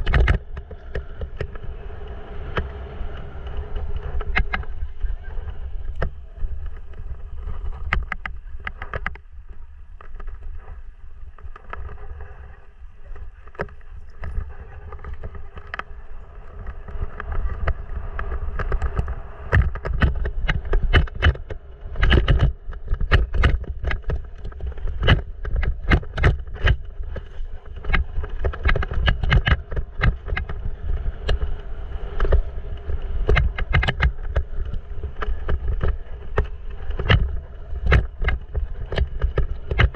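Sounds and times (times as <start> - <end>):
bike rattling over stones: 0.0 - 39.9
wind rumble on microphone: 0.0 - 39.9.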